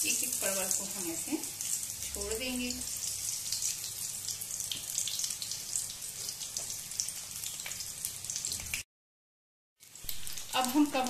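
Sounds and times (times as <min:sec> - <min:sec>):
food sizzling in hot oil: 0:00.0 - 0:08.9, 0:09.8 - 0:11.0.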